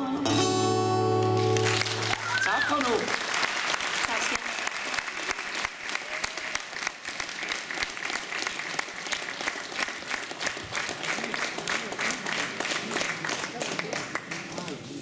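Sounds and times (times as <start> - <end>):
audience applauding: 1.2 - 15.0.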